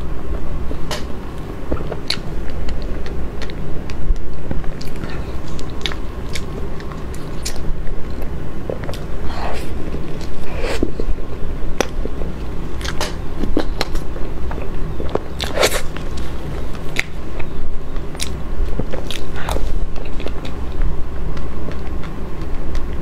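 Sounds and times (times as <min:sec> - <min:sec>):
low hum: 0:00.0 - 0:23.0
wet chewing and lip smacking: 0:01.7 - 0:11.2, 0:11.8 - 0:23.0.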